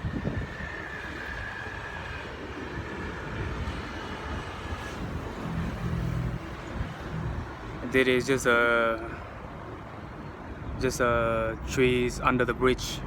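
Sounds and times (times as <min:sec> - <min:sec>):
traffic rumbling over bridge: 0:00.0 - 0:13.0.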